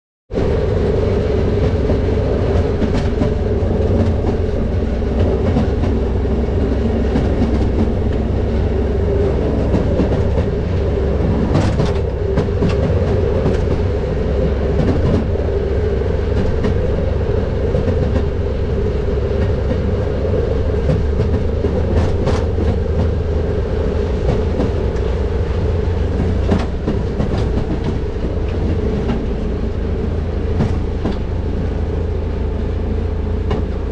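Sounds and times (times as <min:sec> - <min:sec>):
engine drone: 0:00.3 - 0:33.9
wheels rumbling on rails: 0:00.3 - 0:33.9
wheels clicking over rail joints: 0:00.9 - 0:32.1.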